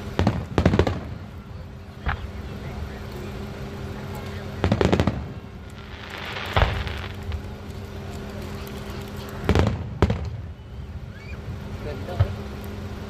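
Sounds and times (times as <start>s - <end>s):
fireworks bangs: 0.0s - 10.6s, 12.1s - 12.5s
steady low hum: 0.0s - 13.0s.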